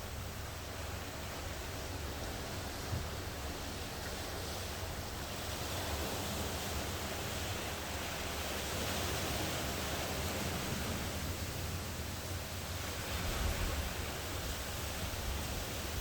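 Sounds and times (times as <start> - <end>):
ocean surf washing on shore: 0.0 - 16.0.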